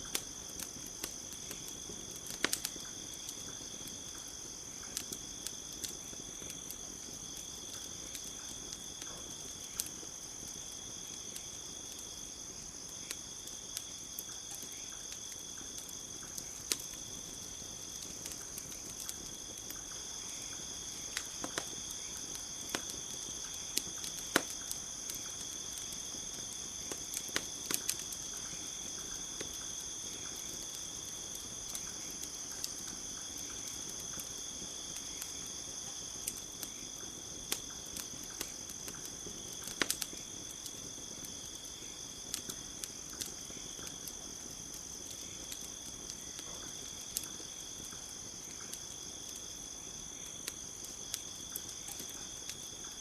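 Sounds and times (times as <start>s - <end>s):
campfire crackling: 0.0s - 53.0s
crickets trilling: 0.0s - 53.0s.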